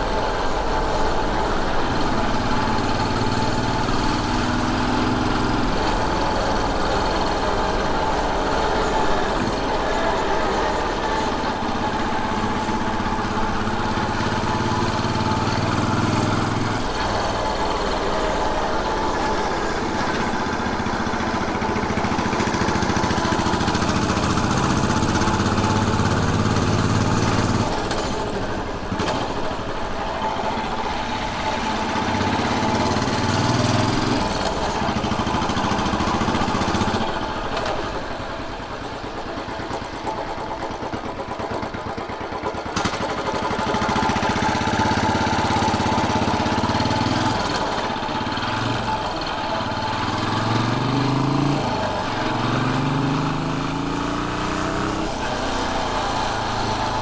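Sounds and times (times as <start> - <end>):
wind and road noise: 0.0 - 42.2, 42.8 - 57.0
motorcycle engine revving: 0.0 - 57.0.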